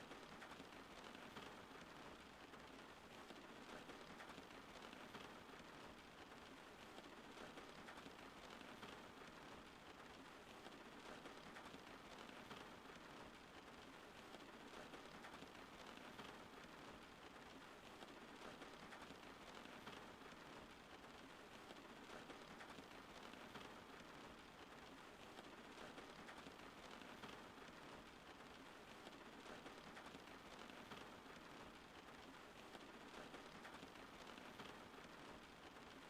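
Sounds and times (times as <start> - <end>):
soft steady rain: 0.0 - 36.0.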